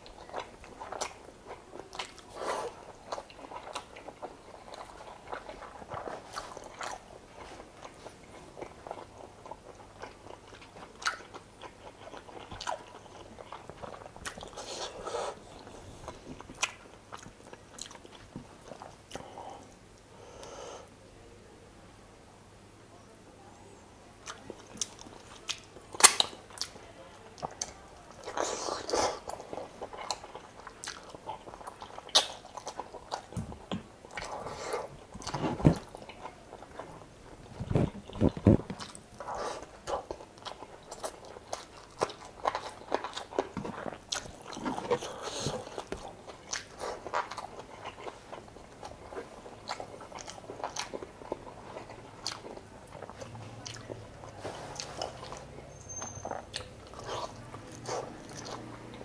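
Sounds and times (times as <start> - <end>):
person chewing and biting: 0.0 - 7.1, 8.6 - 19.3, 27.4 - 36.9, 37.5 - 59.0.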